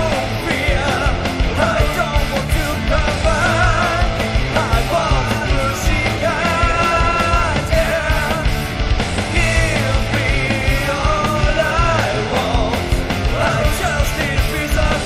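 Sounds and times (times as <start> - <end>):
driving drum beat: 0.0 - 15.0
person singing lead vocal: 0.0 - 15.0
rock song: 0.0 - 15.0.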